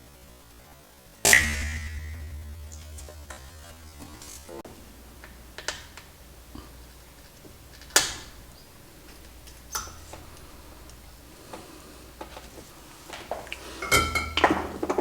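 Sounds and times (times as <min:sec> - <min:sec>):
low steady hum: 0:00.0 - 0:13.1.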